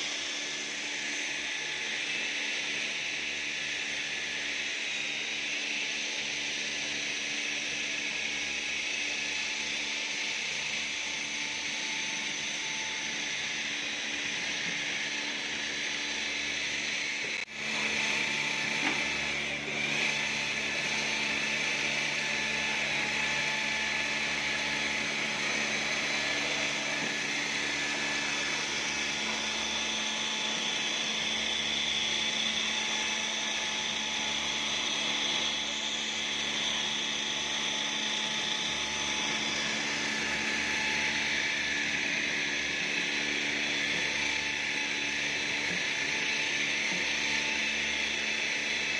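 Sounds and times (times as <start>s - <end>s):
motor whirring: 0.0s - 48.9s.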